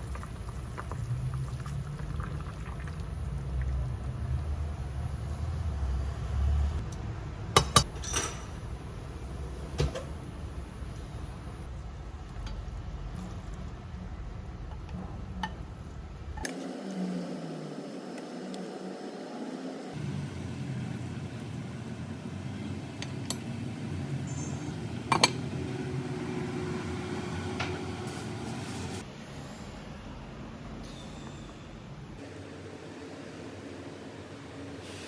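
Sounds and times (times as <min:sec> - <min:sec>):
household room noise: 0:00.0 - 0:30.4.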